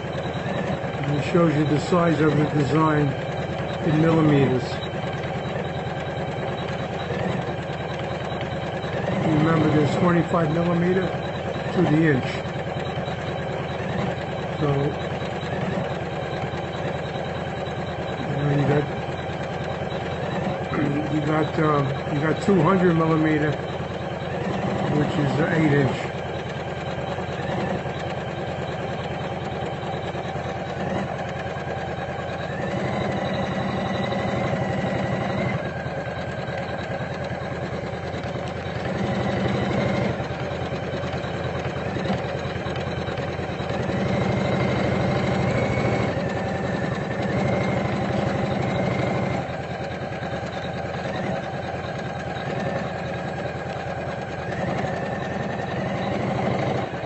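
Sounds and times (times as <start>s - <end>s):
embroidery machine stitching: 0.0s - 57.0s
motor whine: 0.0s - 57.0s.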